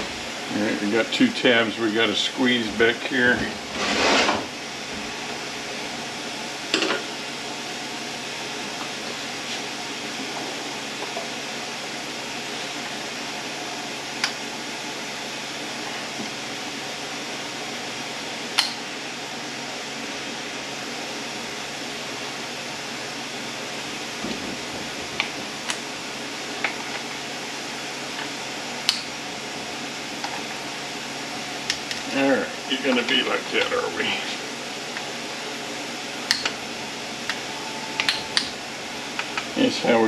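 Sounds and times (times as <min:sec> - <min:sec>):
fan-like background hiss: 0:00.0 - 0:40.0.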